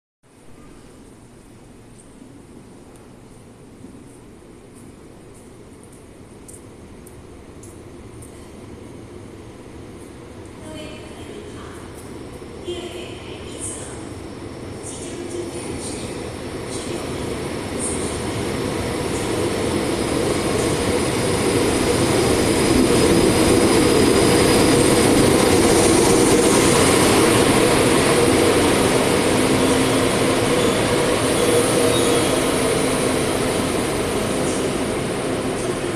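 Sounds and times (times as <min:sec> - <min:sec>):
passenger train rolling in: 0:00.3 - 0:35.9.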